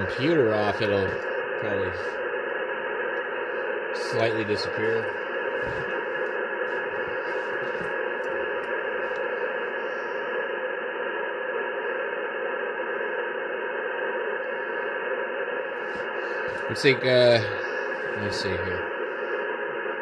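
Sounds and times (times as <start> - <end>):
faint steady tones: 0.0 - 20.0
radio static: 0.0 - 20.0.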